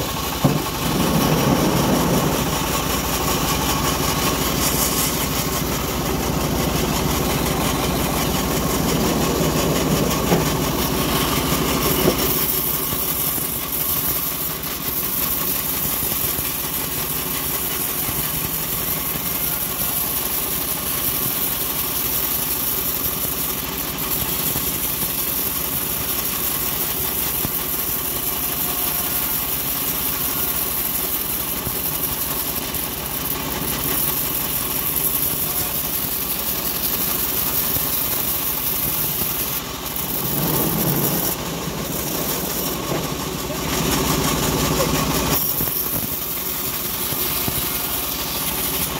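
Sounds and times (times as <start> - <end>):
bandsaw mill cutting wood: 0.0 - 48.9.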